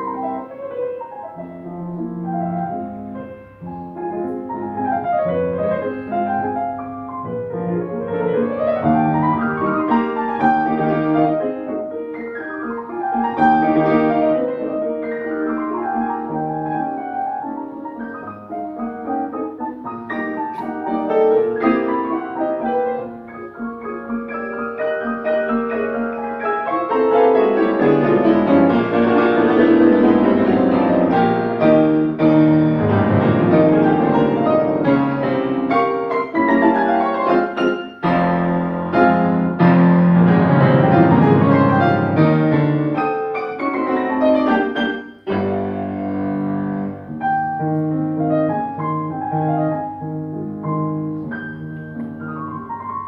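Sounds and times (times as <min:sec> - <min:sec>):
grand piano playing: 0:00.0 - 0:53.0.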